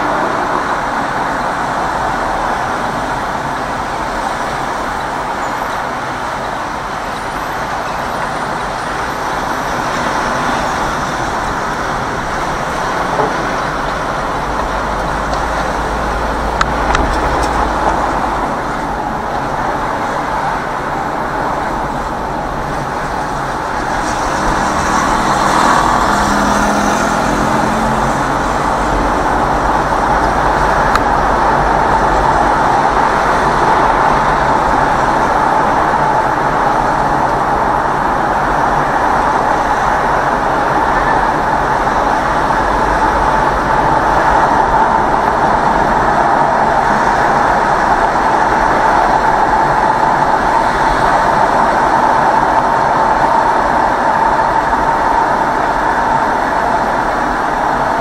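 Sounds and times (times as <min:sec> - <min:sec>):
traffic noise from inside car: 0:00.0 - 0:58.0.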